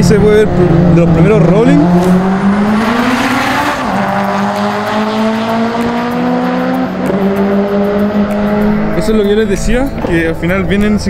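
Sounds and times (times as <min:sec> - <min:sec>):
drag cars accelerating: 0:00.0 - 0:10.7.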